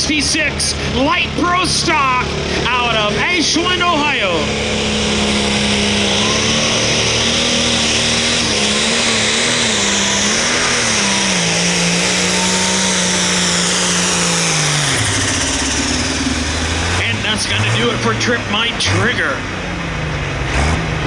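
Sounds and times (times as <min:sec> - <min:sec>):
diesel engine running hard: 0:00.0 - 0:21.0.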